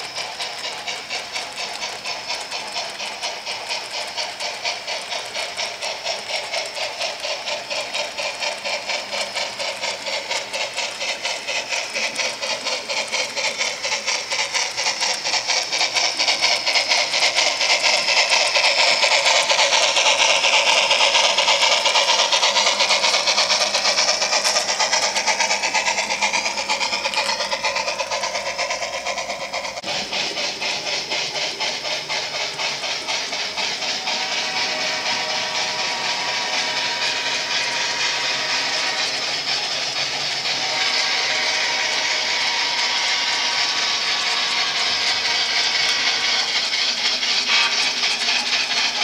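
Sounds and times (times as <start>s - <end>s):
steam engine hiss: 0.0s - 49.0s
steam train clicking past: 0.0s - 49.0s.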